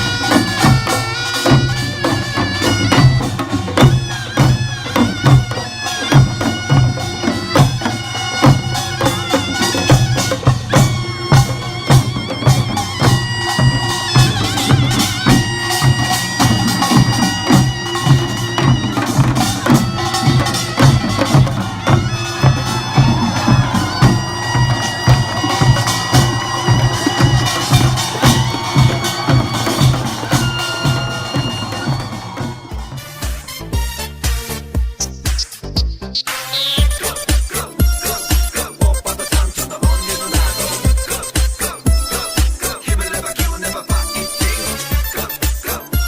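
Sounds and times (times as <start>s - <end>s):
instrumental music with beat: 0.0s - 46.0s.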